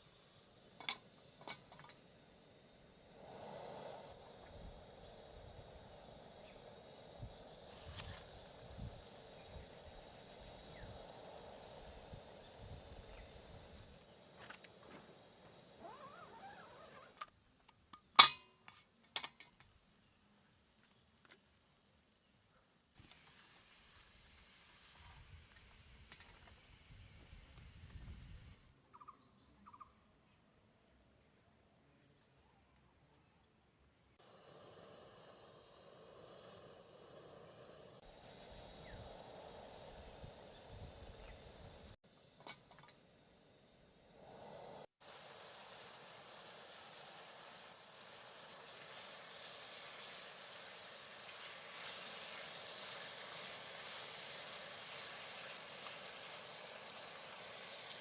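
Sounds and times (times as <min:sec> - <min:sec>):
cricket trill: 0:00.0 - 0:17.4, 0:28.0 - 0:58.0
insects chirring: 0:00.0 - 0:18.3, 0:24.9 - 0:58.0
hissy background noise: 0:00.0 - 0:28.7, 0:30.4 - 0:58.0.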